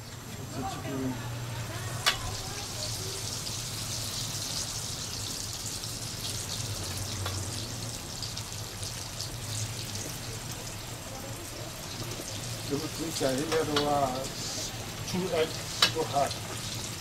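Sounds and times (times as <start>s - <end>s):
oil sizzling and crackling: 0.0s - 17.0s.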